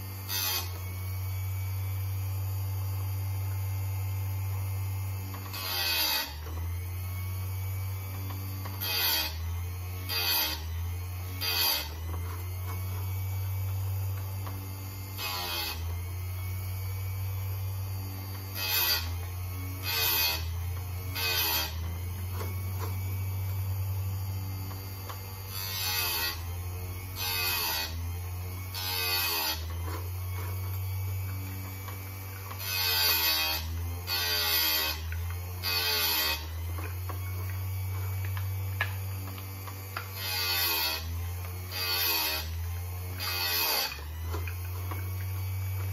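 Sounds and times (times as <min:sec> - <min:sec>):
sharpener motor humming: 0:00.0 - 0:45.9
grinding wheel on chain: 0:05.3 - 0:06.6, 0:08.2 - 0:09.4, 0:10.1 - 0:10.8, 0:11.4 - 0:17.4, 0:18.3 - 0:45.9.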